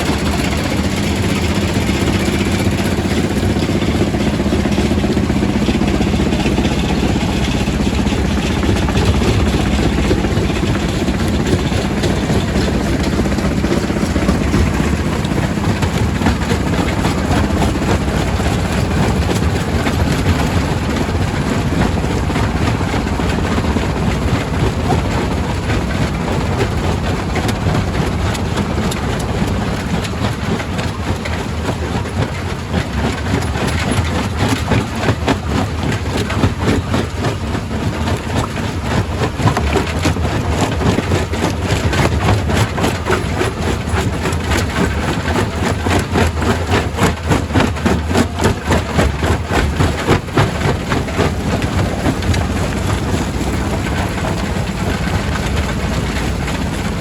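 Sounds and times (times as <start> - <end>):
rock crusher drone: 0.0 - 57.0.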